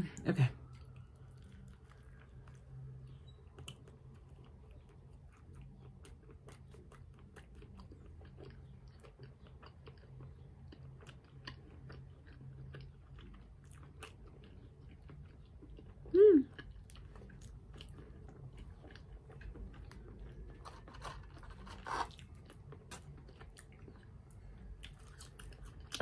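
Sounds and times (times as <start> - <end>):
faint low hum: 0.0 - 26.0
person chewing: 0.6 - 26.0.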